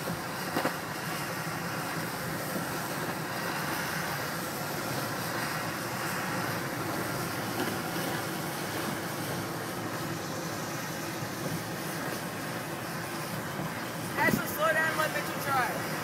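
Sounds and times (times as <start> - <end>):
tyres rolling on asphalt: 0.0 - 16.0.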